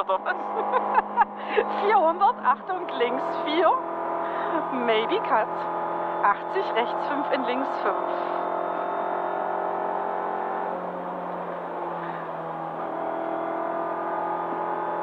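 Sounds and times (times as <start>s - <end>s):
rally car engine under load: 0.0s - 15.0s
road and tyre noise: 0.0s - 15.0s.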